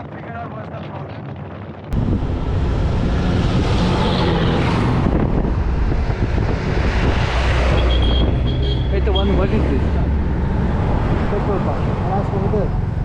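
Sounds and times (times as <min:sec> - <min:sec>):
wind on microphone: 0:00.0 - 0:12.1
road and vehicle noise: 0:01.9 - 0:13.0.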